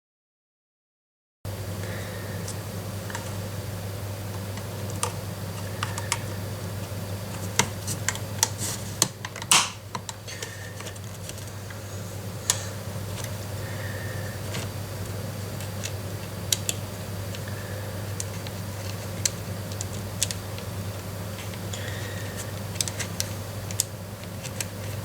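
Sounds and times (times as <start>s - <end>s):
steady low hum: 1.5s - 25.0s.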